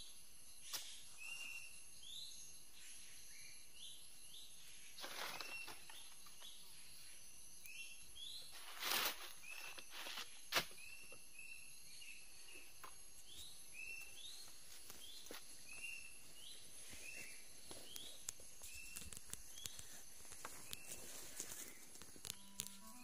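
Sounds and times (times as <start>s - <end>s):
high insect whine: 0.0s - 23.0s.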